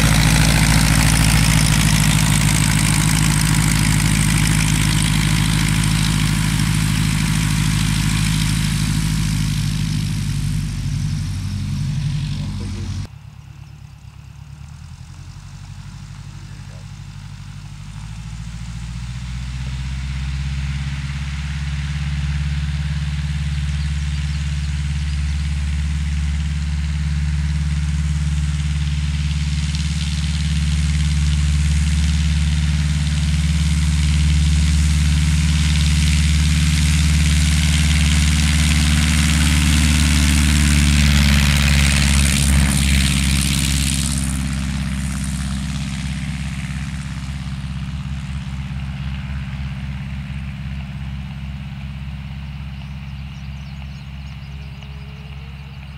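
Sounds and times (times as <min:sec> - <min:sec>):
small plane engine and propeller: 0:00.0 - 0:55.9.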